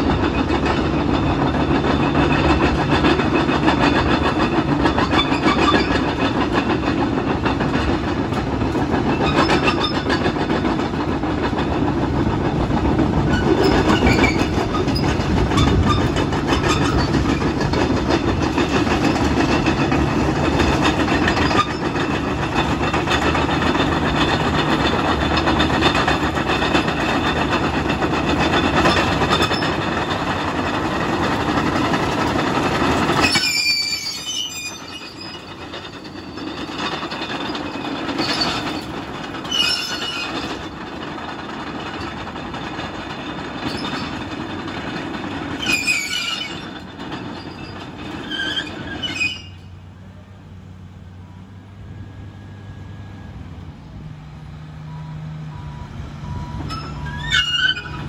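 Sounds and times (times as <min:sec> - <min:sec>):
steel tracks squealing: 0:00.0 - 0:50.2, 0:54.8 - 0:58.0
bulldozer diesel engine: 0:00.0 - 0:58.0.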